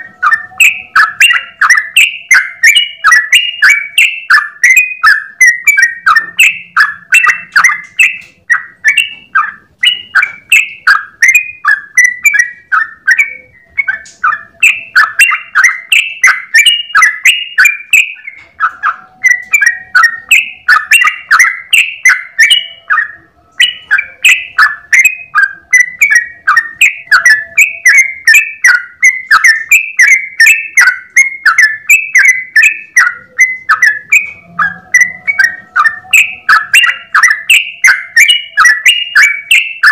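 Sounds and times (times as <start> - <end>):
bird singing chirpy notes: 0.0 - 39.9.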